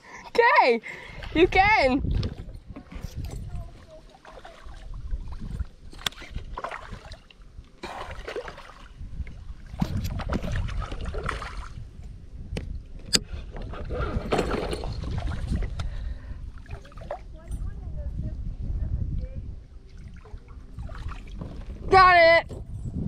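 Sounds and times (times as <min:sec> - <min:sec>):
water lapping against kayak: 0:00.8 - 0:12.2, 0:12.9 - 0:17.5, 0:19.2 - 0:22.4
wind rumble on microphone: 0:01.1 - 0:23.0.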